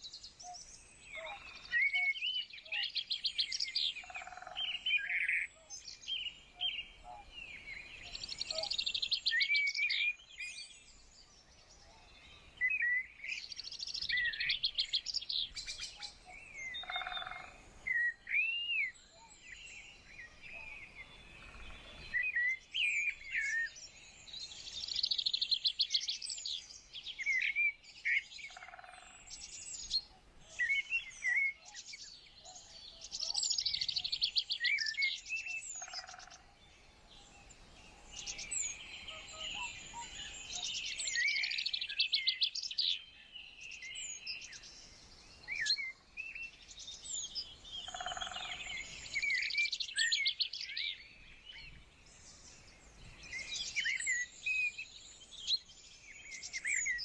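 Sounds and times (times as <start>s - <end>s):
songbirds singing and trilling: 0.0s - 57.0s.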